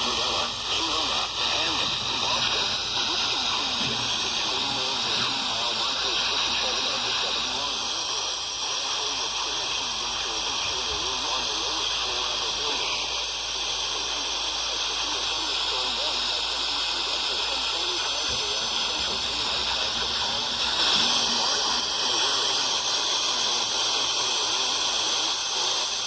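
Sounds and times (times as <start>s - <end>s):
faint garbled speech: 0.0s - 26.0s
faint indistinct voice: 0.0s - 26.0s
radio static hiss: 0.0s - 26.0s.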